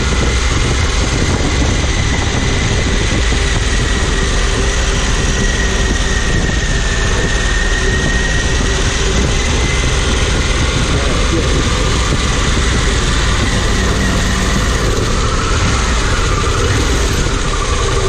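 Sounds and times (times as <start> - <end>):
motorcycle engine running: 0.0 - 18.0
road and wind noise: 0.0 - 18.0.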